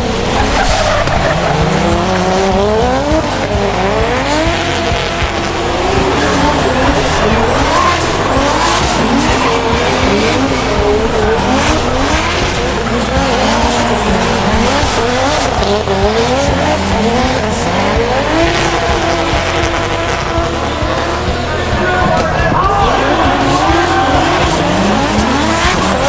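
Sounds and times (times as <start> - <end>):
car engine revving: 0.0 - 26.0
tyres screeching: 0.0 - 26.0.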